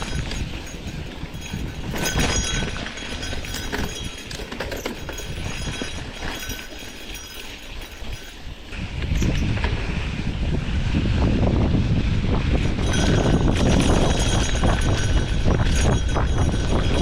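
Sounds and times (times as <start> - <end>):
stones and bike rattling: 0.0 - 17.0.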